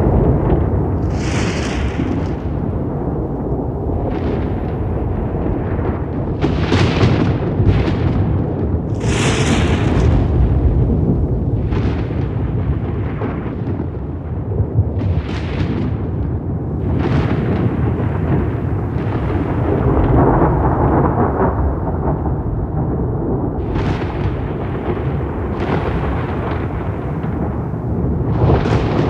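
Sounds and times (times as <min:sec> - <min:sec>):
rolling thunder rumble: 0:00.0 - 0:29.0
sharp thunder cracks: 0:00.0 - 0:29.0.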